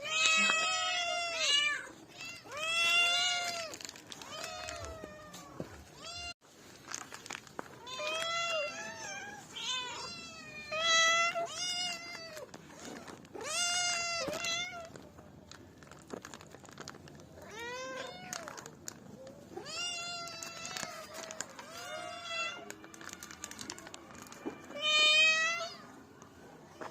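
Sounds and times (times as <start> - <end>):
cats meowing: 0.0 - 6.4, 7.7 - 15.1, 17.4 - 26.9.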